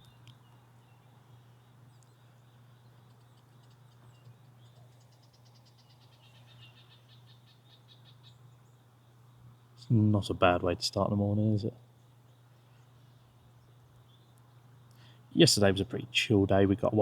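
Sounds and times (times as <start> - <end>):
songbird chirps and trill: 0.0 - 17.0
steady low hum: 0.0 - 17.0.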